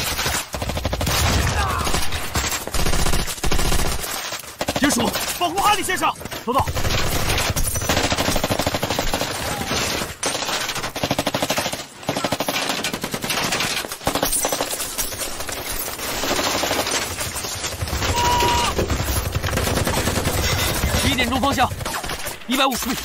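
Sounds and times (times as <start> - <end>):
rapid automatic gunfire: 0.0 - 23.0.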